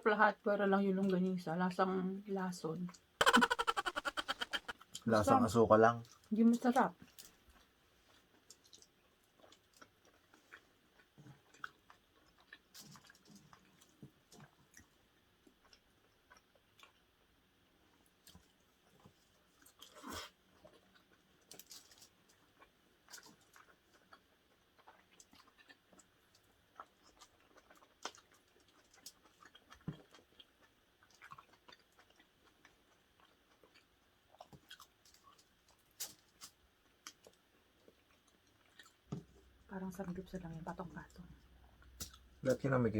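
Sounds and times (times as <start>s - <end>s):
chewing food: 6.0s - 42.5s.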